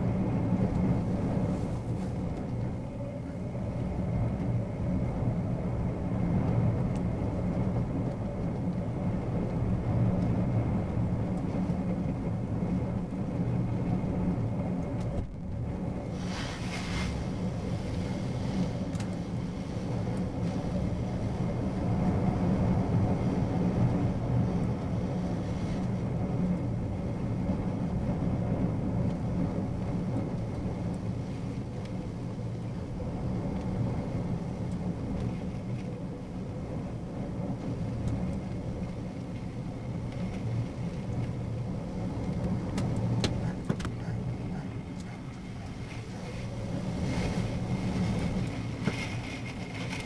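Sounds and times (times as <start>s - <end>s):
storm wind and heavy sea rumble: 0.0s - 50.0s.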